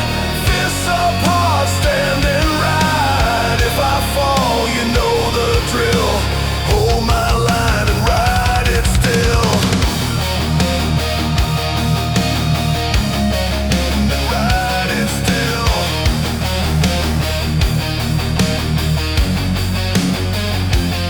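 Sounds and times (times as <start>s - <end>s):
driving drums and bass: 0.0s - 21.0s
hard rock music: 0.0s - 21.0s
sliding lead guitar melody: 0.0s - 21.0s.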